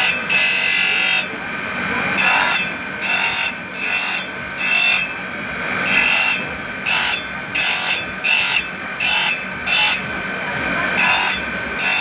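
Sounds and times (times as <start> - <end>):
engraving wheel motor: 0.0 - 12.0
shrill glass grinding whine: 0.0 - 12.0.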